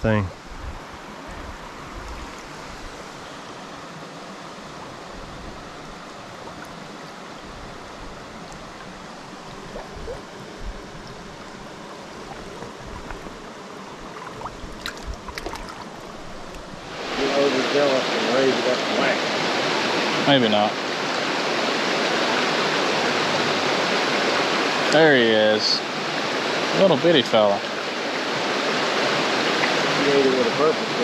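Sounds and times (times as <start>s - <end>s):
creek flowing over rocks: 0.1s - 31.0s.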